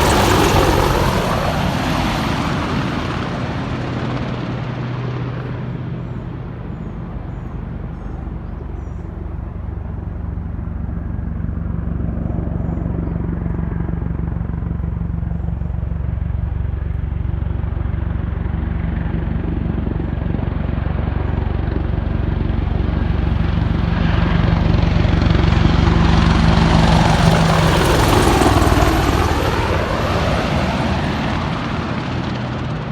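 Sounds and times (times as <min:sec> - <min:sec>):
helicopters flying by: 0:00.0 - 0:32.9.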